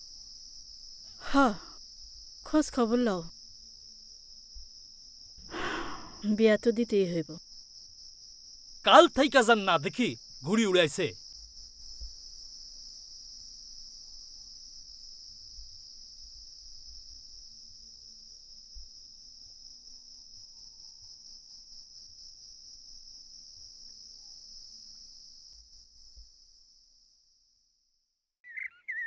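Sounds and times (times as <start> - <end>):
crickets chirring: 0.0 - 27.3, 28.5 - 29.0.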